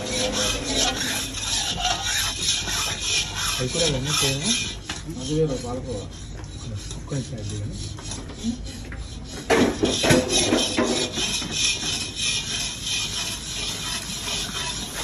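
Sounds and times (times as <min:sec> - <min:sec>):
metal ladle scraping a pot: 0:00.0 - 0:15.0.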